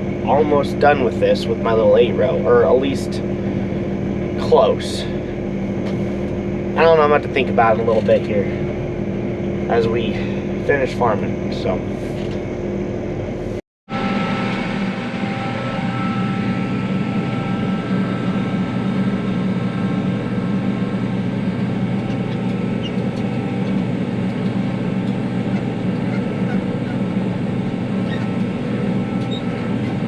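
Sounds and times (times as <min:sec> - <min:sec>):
tractor engine drone: 0:00.0 - 0:30.0.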